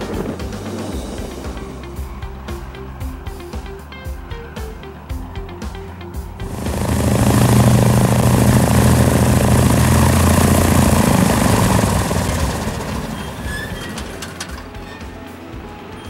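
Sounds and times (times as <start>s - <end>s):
propeller plane engine running: 0.0s - 15.9s.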